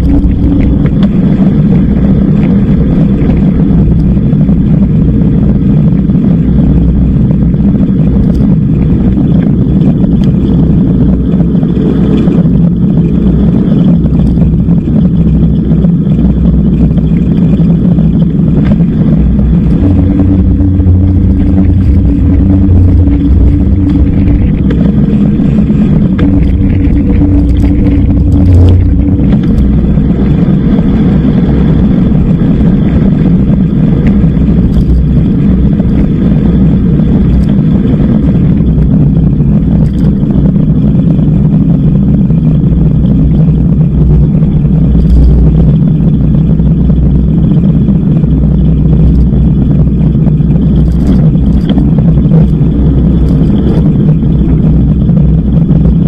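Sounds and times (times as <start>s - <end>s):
road and tyre noise: 0.0s - 56.0s
steady low hum: 0.0s - 56.0s
wind rumble on microphone: 0.0s - 56.0s.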